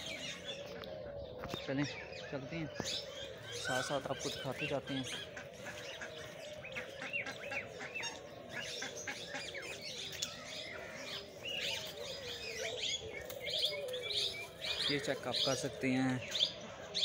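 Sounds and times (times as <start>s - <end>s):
many birds chirping: 0.0s - 17.0s.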